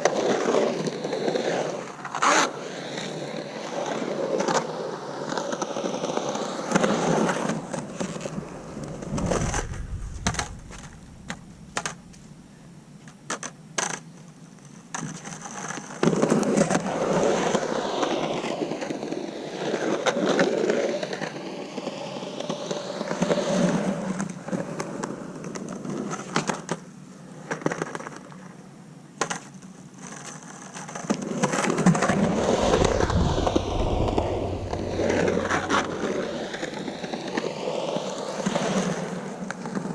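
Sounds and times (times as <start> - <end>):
skateboard wheels rolling on concrete: 0.0 - 28.5, 29.2 - 39.9.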